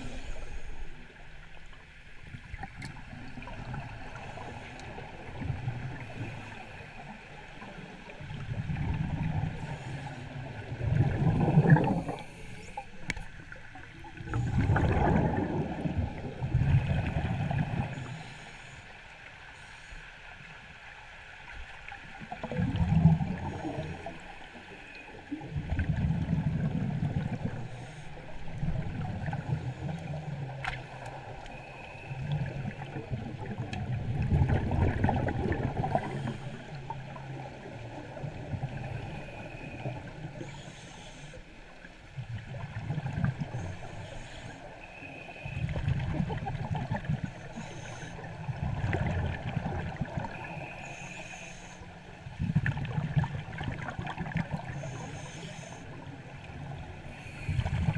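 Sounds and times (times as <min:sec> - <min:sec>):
muffled underwater churning: 0:00.0 - 0:57.9.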